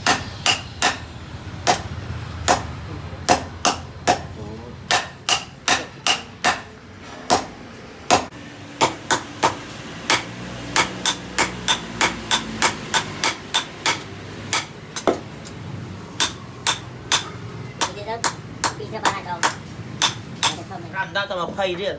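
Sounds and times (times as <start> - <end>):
hammer striking steel on anvil: 0.0 - 15.6, 16.2 - 20.7.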